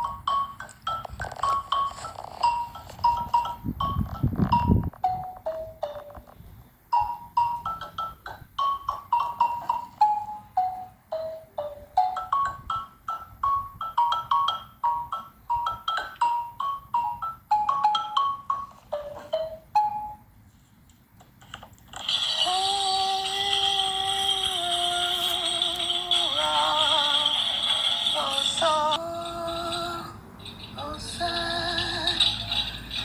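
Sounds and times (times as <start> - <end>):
xylophone melody: 0.0 - 20.4, 22.4 - 33.0
held tone with jingling hiss: 0.0 - 20.8, 21.9 - 33.0.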